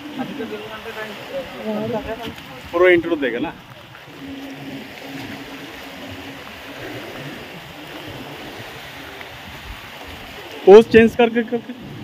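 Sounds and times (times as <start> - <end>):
sea water washing: 0.0 - 12.0.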